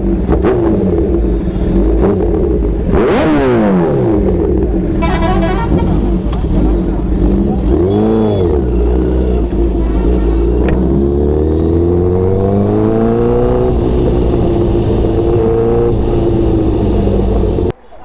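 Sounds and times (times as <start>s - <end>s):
motorcycle engine accelerating: 0.0s - 17.7s.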